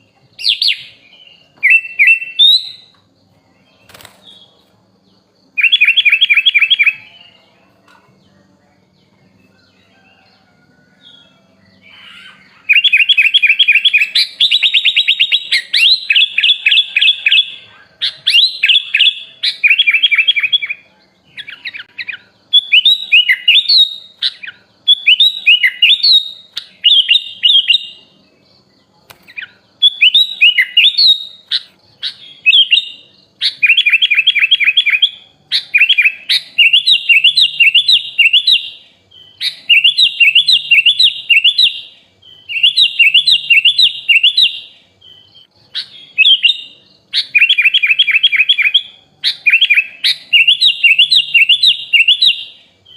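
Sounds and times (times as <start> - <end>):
bulbul singing: 0.0 - 52.9.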